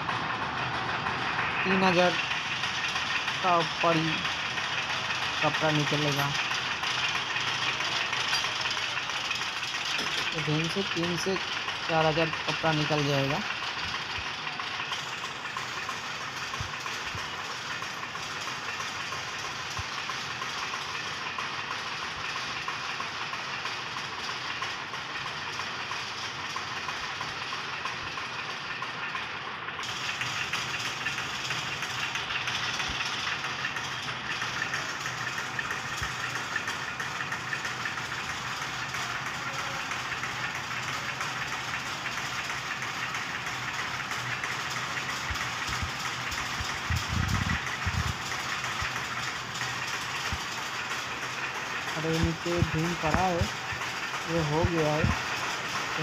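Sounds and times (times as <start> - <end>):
warping machine clatter and hum: 0.0 - 56.0.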